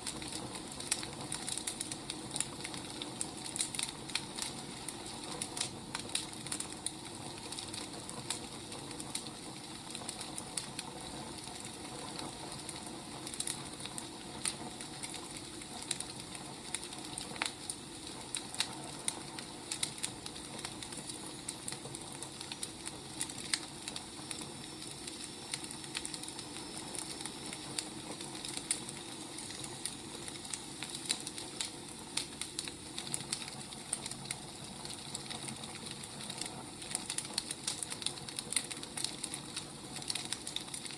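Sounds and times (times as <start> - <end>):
firewood burning with crackles: 0.0 - 40.9.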